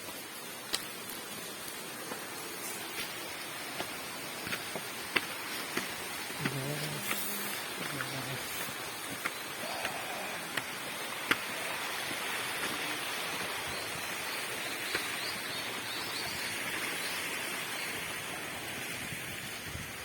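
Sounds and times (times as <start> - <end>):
waterfall rushing: 2.9 - 19.7.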